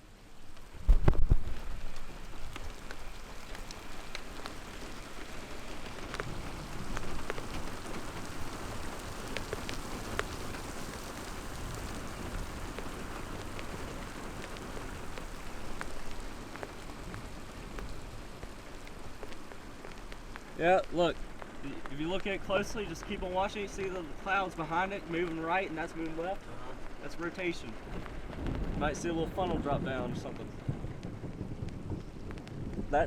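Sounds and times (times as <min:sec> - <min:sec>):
rain on a car: 0:00.0 - 0:33.0
raindrops ticking on roof and glass: 0:00.0 - 0:33.0.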